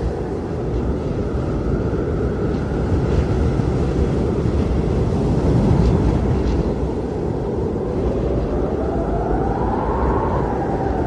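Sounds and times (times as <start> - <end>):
blizzard wind blowing: 0.0 - 11.0.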